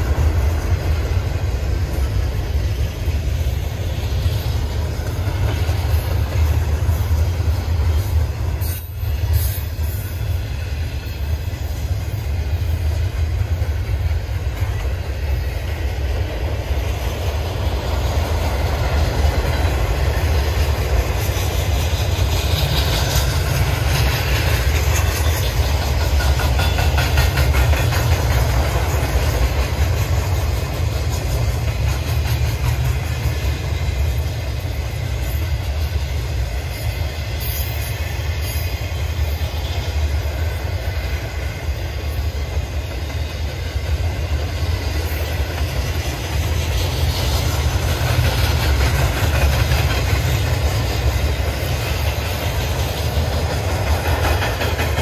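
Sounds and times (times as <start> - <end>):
freight train cars rattling: 0.0 - 55.0.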